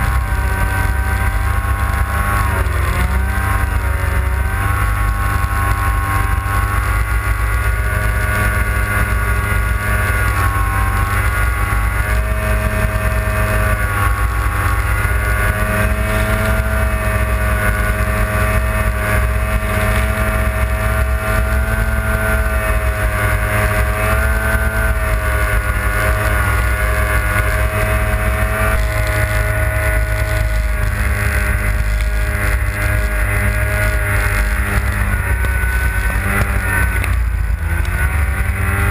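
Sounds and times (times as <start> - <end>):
snowmobile engine running hard: 0.0 - 38.9
snowmobile track noise: 0.0 - 38.9
wind rumble: 0.0 - 38.9.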